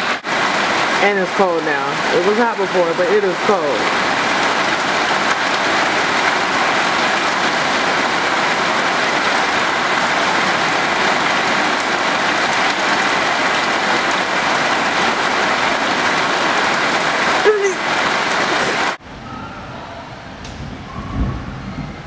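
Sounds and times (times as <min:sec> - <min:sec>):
heavy rain splashing: 0:00.0 - 0:19.2.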